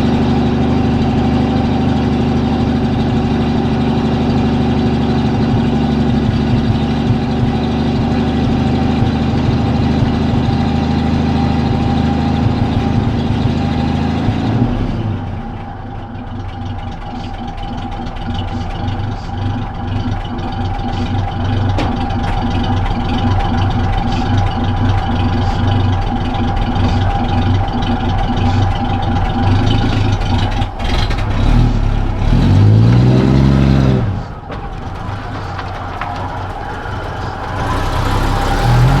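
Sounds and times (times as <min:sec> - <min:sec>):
pickup truck engine running: 0:00.0 - 0:39.0.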